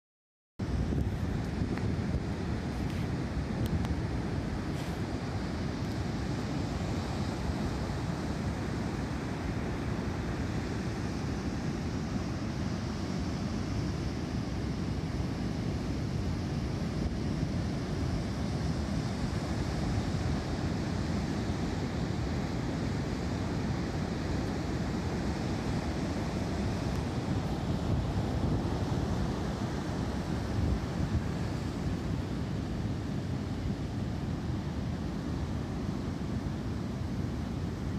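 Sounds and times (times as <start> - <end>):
ocean surf breaking: 0.7 - 37.9.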